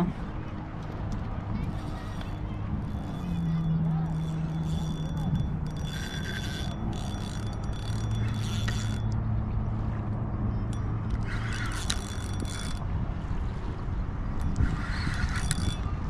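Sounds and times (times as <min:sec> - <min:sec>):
fishing reel gears whirring: 0:00.0 - 0:16.0.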